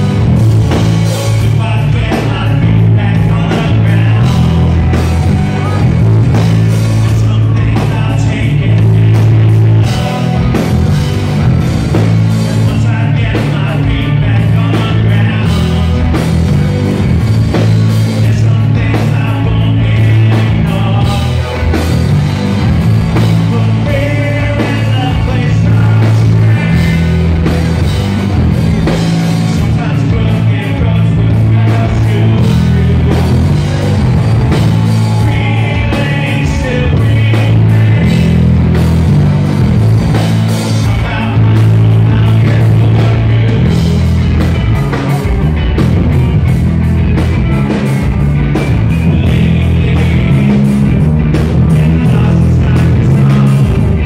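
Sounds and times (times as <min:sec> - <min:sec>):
man singing: 0:00.0 - 0:46.4, 0:47.1 - 0:54.0
live rock band playing: 0:00.0 - 0:54.0.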